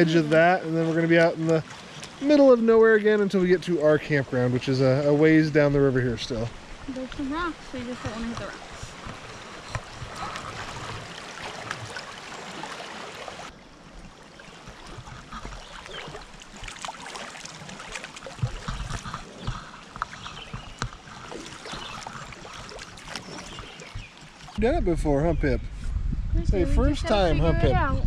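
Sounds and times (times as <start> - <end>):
small water splashes: 0.0 - 24.6
river water lapping against tube: 0.0 - 24.8.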